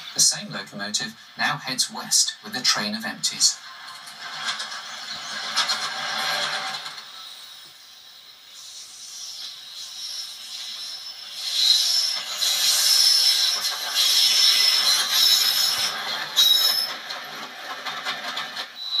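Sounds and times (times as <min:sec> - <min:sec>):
train running past: 0:00.0 - 0:19.0
high squealing wheels: 0:03.7 - 0:19.0.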